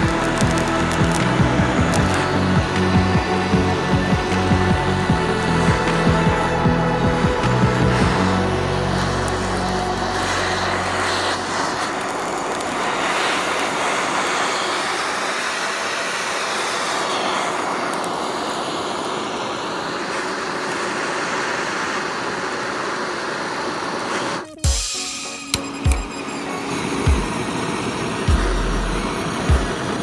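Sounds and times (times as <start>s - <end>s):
blow torch flame hissing: 0.0s - 30.0s.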